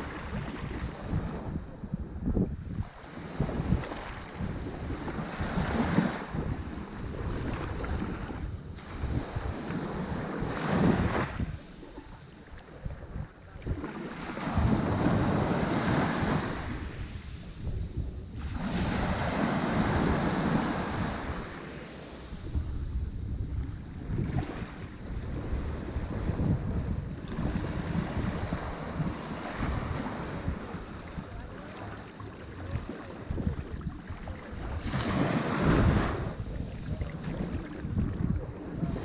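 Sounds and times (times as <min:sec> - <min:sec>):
ocean waves breaking on shore: 0:00.0 - 0:39.0
wind rumble on microphone: 0:00.0 - 0:39.0.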